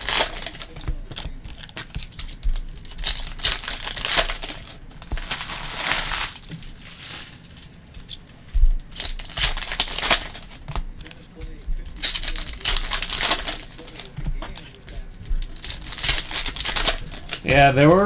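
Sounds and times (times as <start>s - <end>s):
foil wrappers crinkling and tearing: 0.0s - 17.5s.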